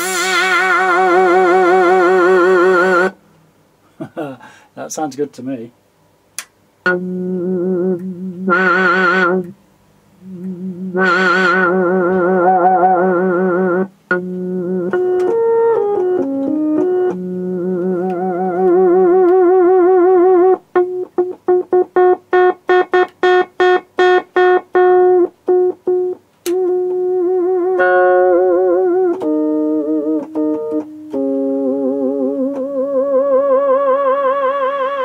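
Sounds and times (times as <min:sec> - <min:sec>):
synthesizer notes with vibrato: 0:00.0 - 0:03.2, 0:06.8 - 0:09.6, 0:10.2 - 0:35.0.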